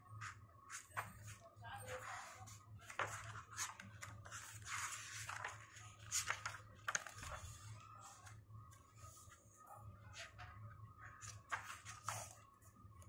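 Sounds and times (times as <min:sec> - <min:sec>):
book pages rustling: 0:02.2 - 0:12.7.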